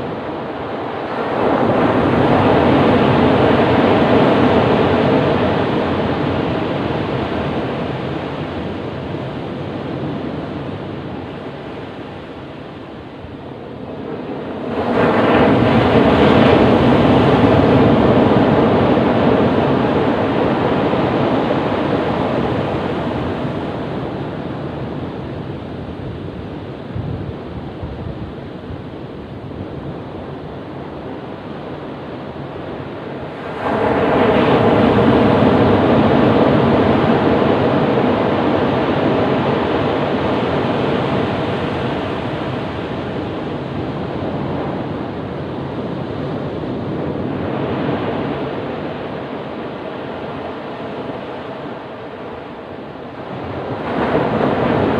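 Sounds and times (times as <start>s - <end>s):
waves crashing on beach: 0.0s - 54.9s.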